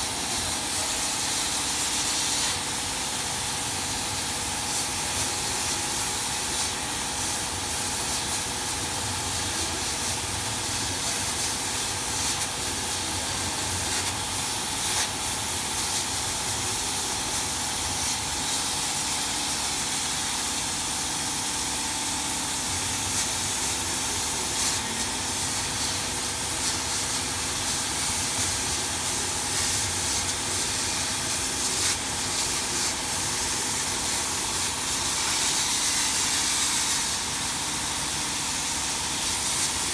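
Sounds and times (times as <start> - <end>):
laser cutting machine hissing: 0.0 - 39.9.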